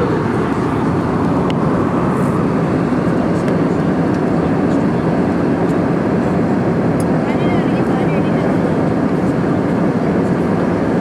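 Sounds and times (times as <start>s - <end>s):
airliner cabin engine rush: 0.0s - 11.0s.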